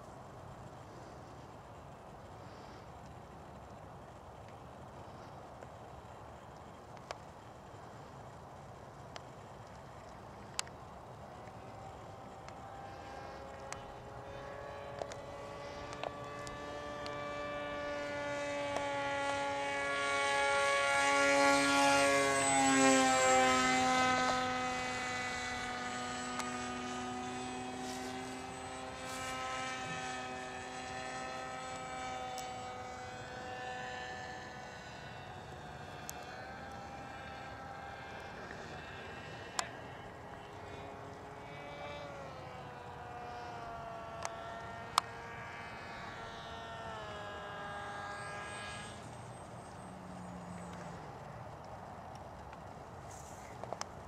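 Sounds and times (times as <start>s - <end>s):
model airplane motor buzzing: 0.0s - 54.0s.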